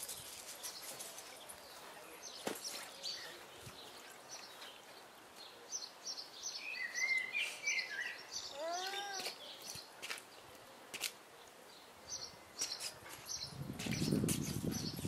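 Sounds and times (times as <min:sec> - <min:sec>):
small birds twittering: 0:00.0 - 0:10.7, 0:11.3 - 0:15.0.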